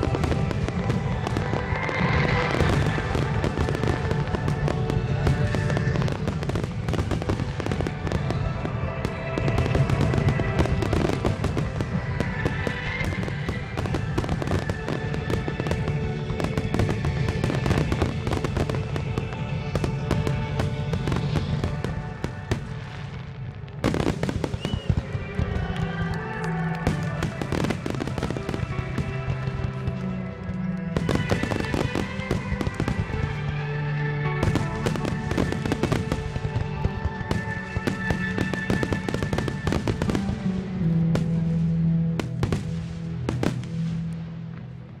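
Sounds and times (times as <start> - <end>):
fireworks exploding: 0.0 - 45.0
music: 0.0 - 45.0.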